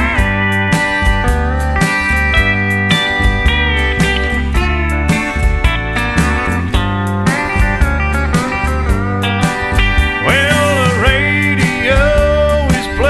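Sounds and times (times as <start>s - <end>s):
instrumental country music: 0.0s - 13.0s.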